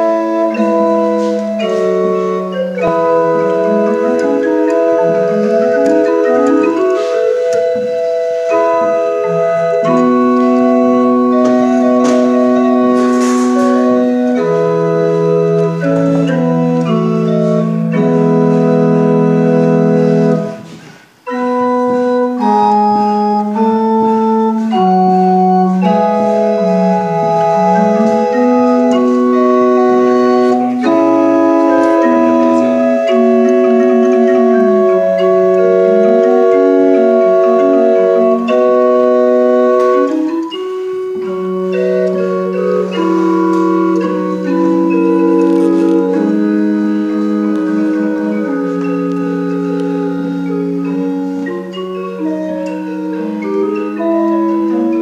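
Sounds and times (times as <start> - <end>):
pipe organ playing chords: 0.0 - 55.0.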